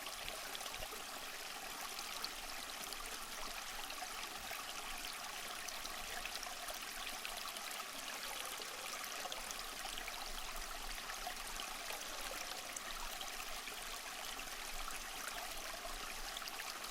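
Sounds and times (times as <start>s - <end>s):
stream trickling over stones: 0.0s - 16.9s.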